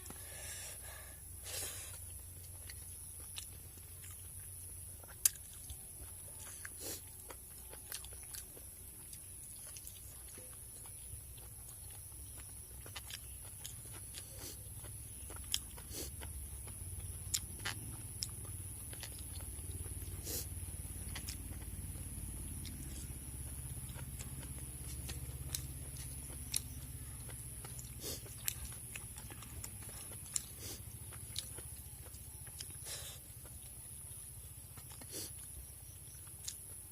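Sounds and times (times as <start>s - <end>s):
person chewing with mouth smacks: 0.0s - 36.9s
steady low hum: 0.0s - 36.9s.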